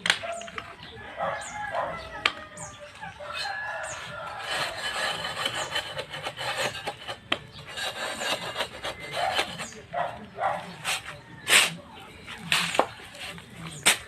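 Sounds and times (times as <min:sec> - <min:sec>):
scraping on concrete block: 0:00.0 - 0:14.0.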